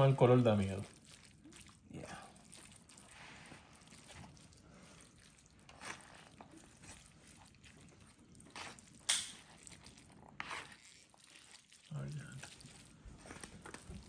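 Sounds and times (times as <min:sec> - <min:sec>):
noodles squishing in sauce: 0:00.0 - 0:14.0.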